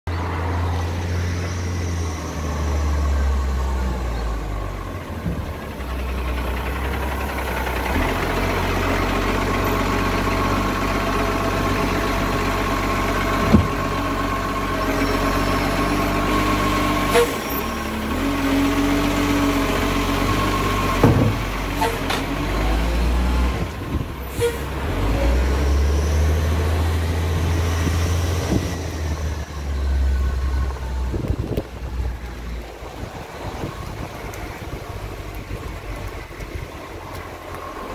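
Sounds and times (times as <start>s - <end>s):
garbage truck diesel engine: 0.1s - 37.9s.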